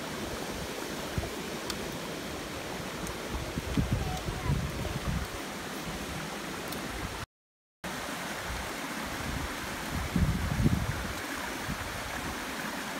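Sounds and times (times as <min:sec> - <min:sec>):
stream rushing: 0:00.0 - 0:12.9.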